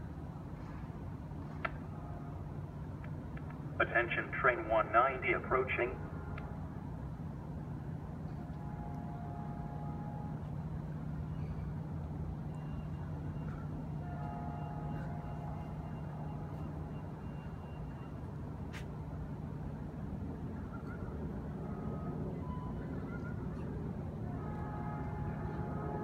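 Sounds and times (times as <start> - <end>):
diesel train drone: 0.0 - 26.0.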